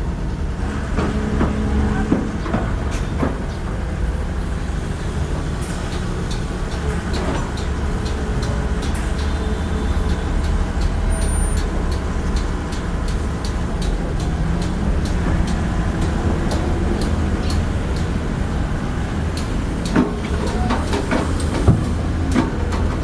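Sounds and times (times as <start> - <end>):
diesel engine rumbling: 0.0 - 23.0.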